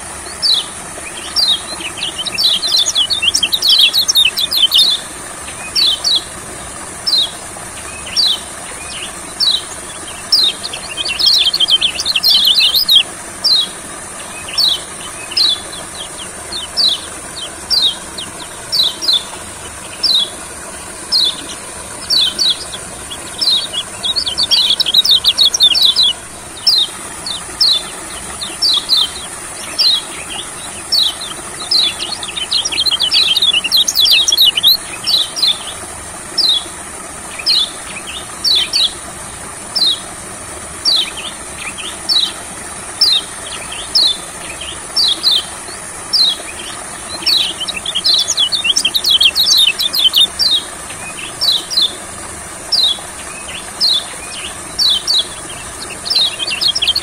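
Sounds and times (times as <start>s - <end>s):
bird chirping and chattering: 0.0s - 6.3s, 7.0s - 35.8s, 37.3s - 39.0s, 40.8s - 52.0s, 52.7s - 57.0s
steady high hiss: 0.0s - 57.0s.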